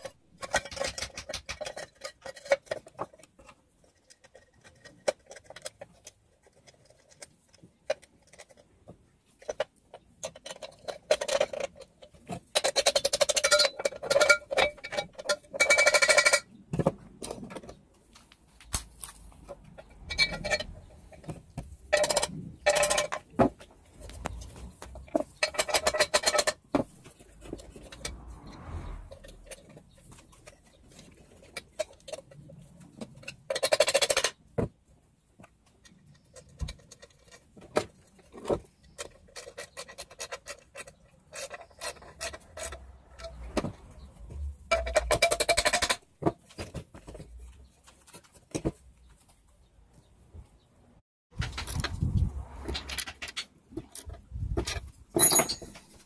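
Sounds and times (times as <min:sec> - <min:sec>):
tools and metal parts clicking: 0:00.0 - 0:28.3, 0:29.0 - 0:34.7, 0:35.3 - 0:48.7, 0:52.7 - 0:56.0
metal rattling and scraping: 0:00.0 - 0:49.6, 0:51.3 - 0:56.0.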